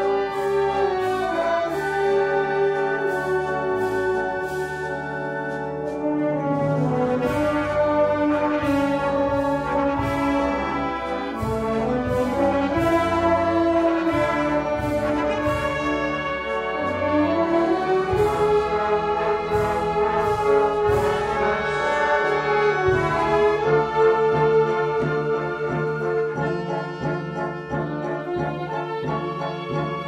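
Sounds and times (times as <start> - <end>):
wind band playing: 0.0 - 30.0.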